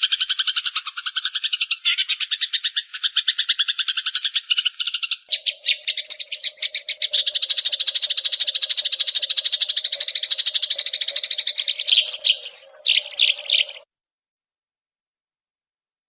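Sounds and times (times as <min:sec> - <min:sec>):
bird whistle: 0:00.0 - 0:13.8
bird chirping: 0:00.0 - 0:13.9.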